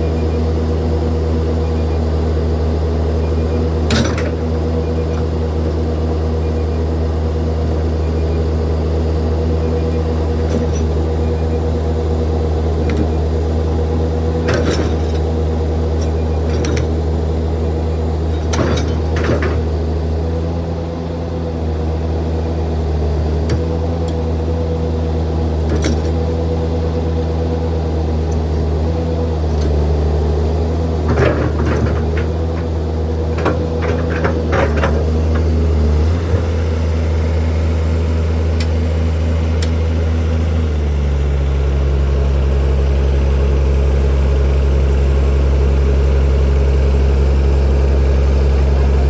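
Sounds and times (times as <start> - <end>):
heavy machinery diesel engine: 0.0 - 49.0.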